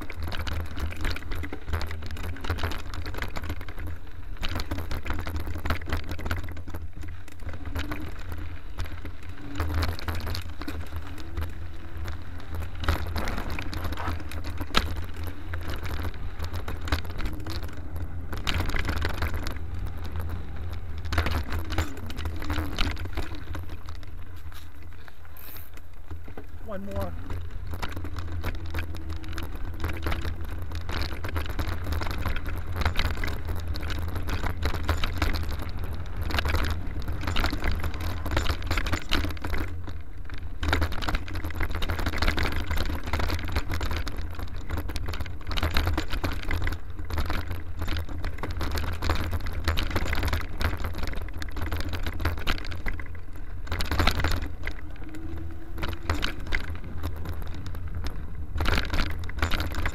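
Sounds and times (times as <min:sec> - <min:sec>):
bike clattering and rattling: 0:00.0 - 0:59.9
low rumble: 0:00.0 - 0:59.9.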